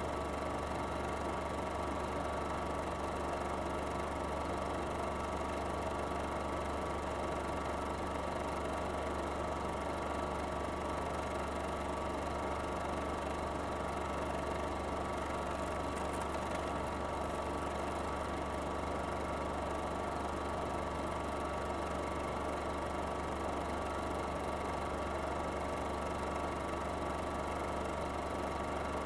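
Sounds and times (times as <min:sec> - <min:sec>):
film projector running: 0:00.0 - 0:29.0.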